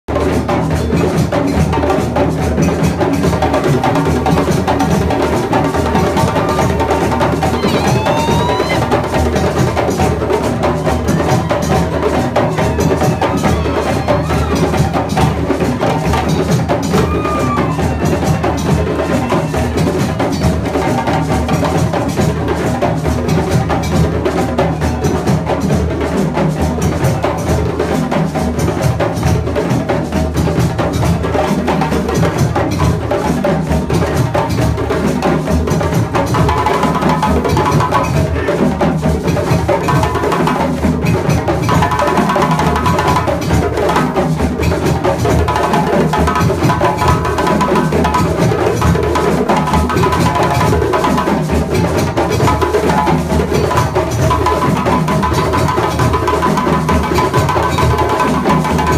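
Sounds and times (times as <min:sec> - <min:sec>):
hand drums playing fast rhythm: 0:00.1 - 0:58.9.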